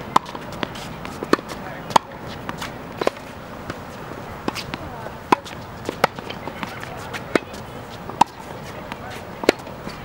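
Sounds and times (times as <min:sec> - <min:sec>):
tennis ball bouncing on court: 0:00.0 - 0:10.0
tennis ball struck by racket: 0:00.1 - 0:10.0.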